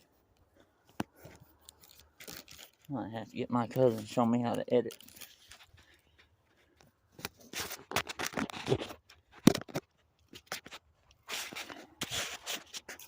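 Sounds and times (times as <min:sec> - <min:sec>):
wood logs scraping and rubbing: 0:00.6 - 0:13.0.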